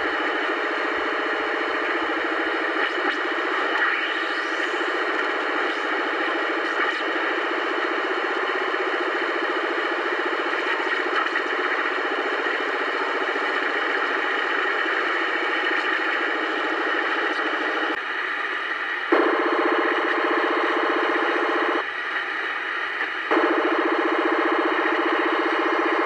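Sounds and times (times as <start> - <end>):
radio hiss: 0.0 - 26.0
rapidly pulsing radio buzz: 0.0 - 26.0.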